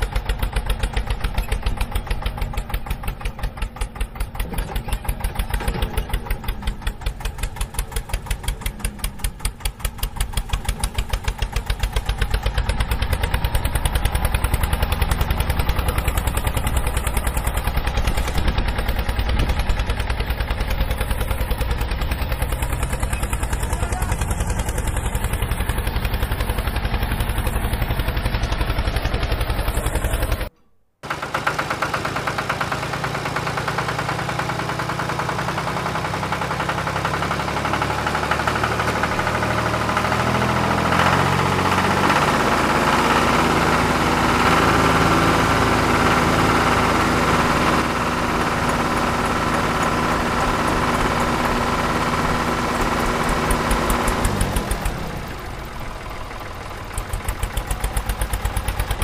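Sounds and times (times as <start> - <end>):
tractor diesel engine chugging: 0.0 - 59.0.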